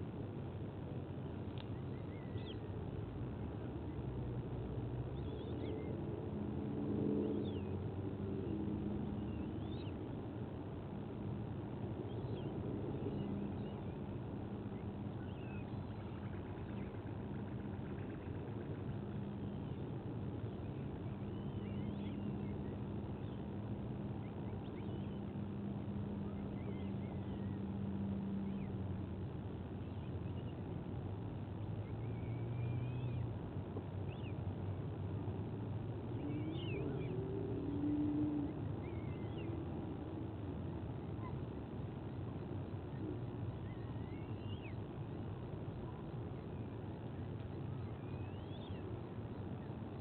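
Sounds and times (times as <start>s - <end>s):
droning engine-like hum: 0.0s - 50.0s
low outdoor rumble: 0.0s - 50.0s
small birds chirping: 0.5s - 6.2s, 7.2s - 50.0s.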